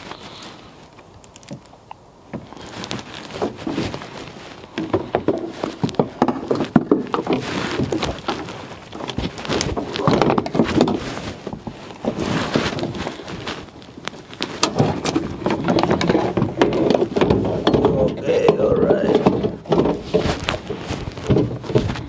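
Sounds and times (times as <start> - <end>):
plastic rustling and scraping: 0.0 - 1.7, 2.3 - 22.0.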